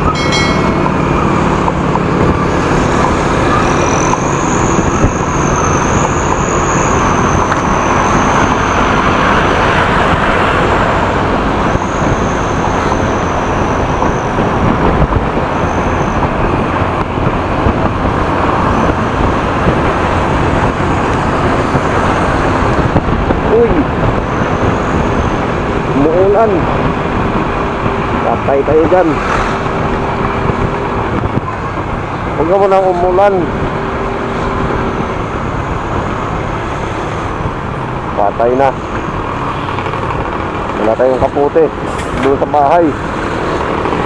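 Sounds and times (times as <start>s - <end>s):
road and wind noise: 0.0s - 44.0s.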